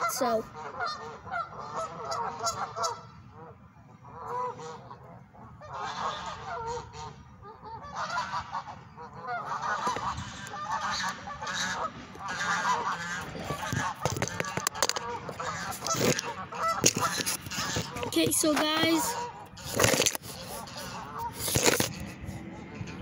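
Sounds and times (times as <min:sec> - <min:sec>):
geese honking: 0:00.0 - 0:22.9.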